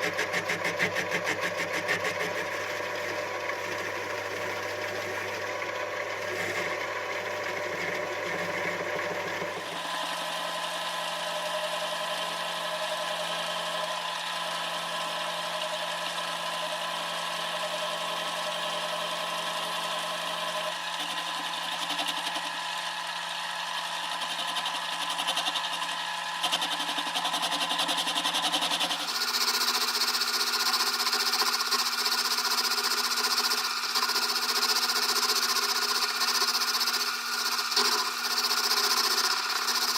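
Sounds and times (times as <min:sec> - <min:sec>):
metal lathe running: 0:00.0 - 0:13.8, 0:14.4 - 0:39.9.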